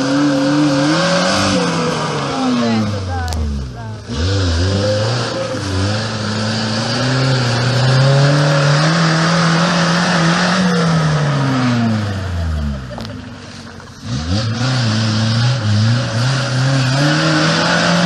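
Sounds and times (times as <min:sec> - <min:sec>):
engine revving hard: 0:00.0 - 0:12.8, 0:13.9 - 0:18.0.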